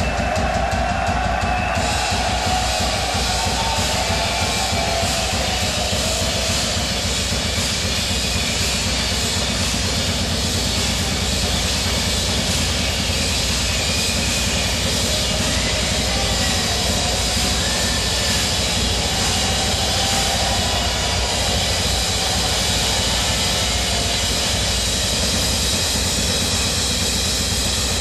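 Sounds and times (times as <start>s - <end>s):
cymbals crashing: 0.0s - 28.0s
rapid bass drum strokes: 0.0s - 28.0s.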